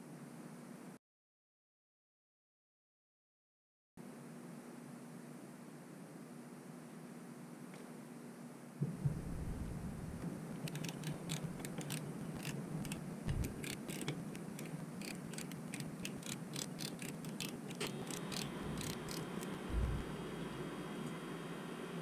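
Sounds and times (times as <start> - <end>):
steady low hum: 4.0 - 22.0.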